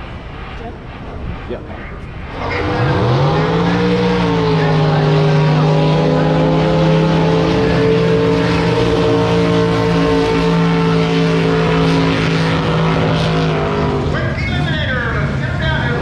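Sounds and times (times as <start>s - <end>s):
racing boat engine running: 0.0s - 16.0s.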